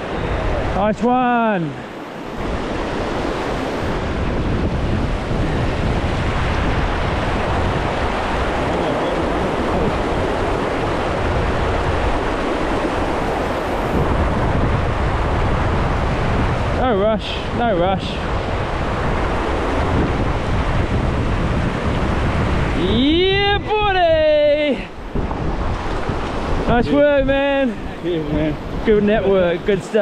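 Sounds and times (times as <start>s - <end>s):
river water rushing: 0.0s - 30.0s
wind buffeting microphone: 0.0s - 30.0s.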